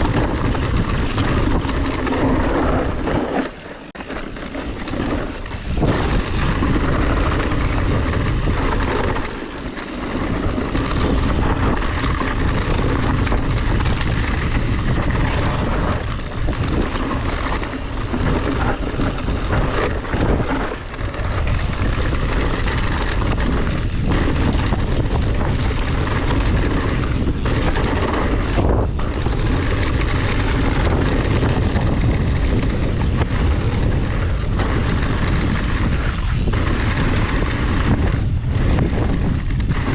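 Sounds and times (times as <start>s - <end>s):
bike knocks and rattles: 0.0s - 39.9s
wind buffeting microphone: 0.0s - 39.9s.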